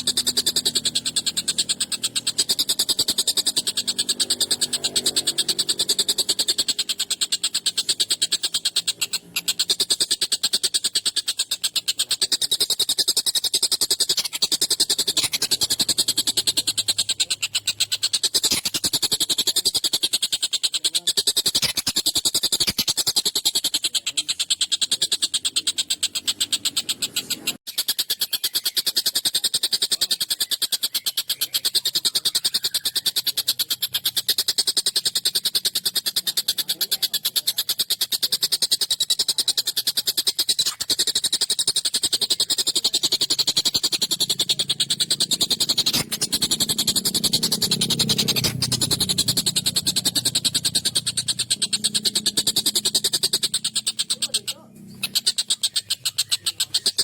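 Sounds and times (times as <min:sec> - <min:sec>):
kingfisher rattling call: 0:00.0 - 0:57.0.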